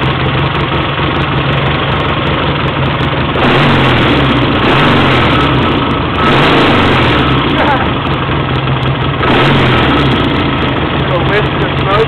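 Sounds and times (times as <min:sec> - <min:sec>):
engine tappet noise: 0:00.0 - 0:12.0
motorcycle engine idling: 0:00.0 - 0:12.0.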